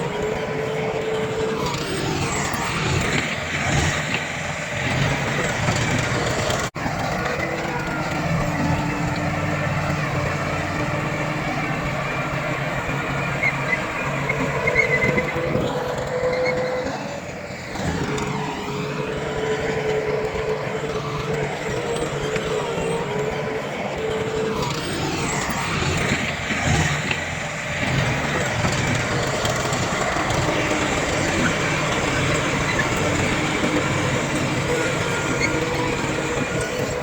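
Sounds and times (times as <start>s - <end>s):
heavy diesel machinery running: 0.0s - 37.0s
steady whine: 0.0s - 37.0s.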